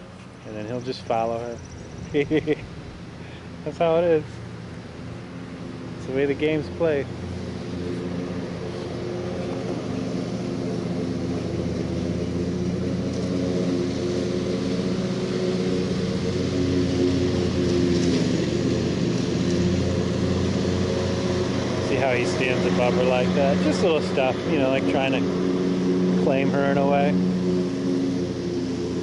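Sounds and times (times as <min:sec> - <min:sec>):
drone motors humming: 0:00.0 - 0:29.0.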